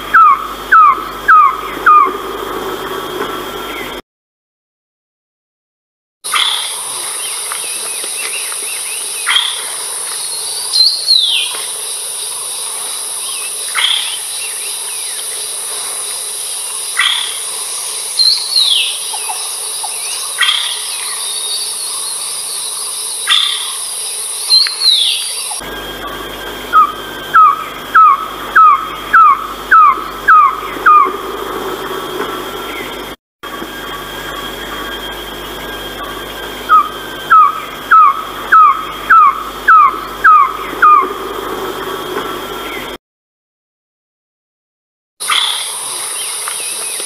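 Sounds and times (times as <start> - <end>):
bird calling: 0.0 - 4.0, 6.3 - 33.2, 33.8 - 43.0, 45.2 - 47.0
high-pitched insect drone: 0.0 - 4.0, 6.3 - 43.0, 45.2 - 47.0.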